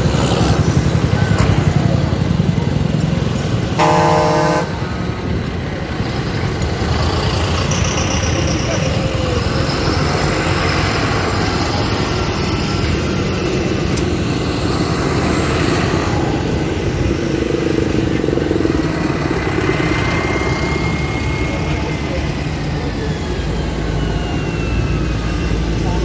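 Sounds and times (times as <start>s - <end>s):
tractor engines rumbling: 0.0s - 26.0s.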